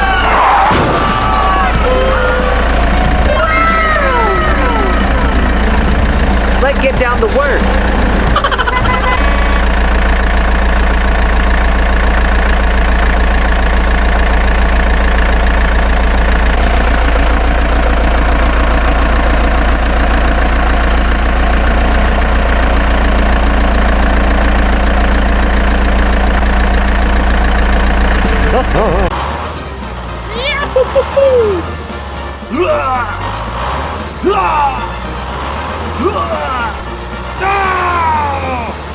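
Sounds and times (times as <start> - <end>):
heavy vehicle engine idling: 0.0 - 38.9.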